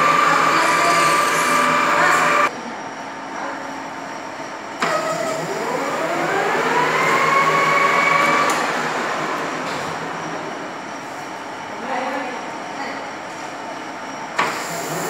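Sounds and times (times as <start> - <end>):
lathe spindle whine: 0.0 - 12.7
workshop machine hum: 0.0 - 15.0.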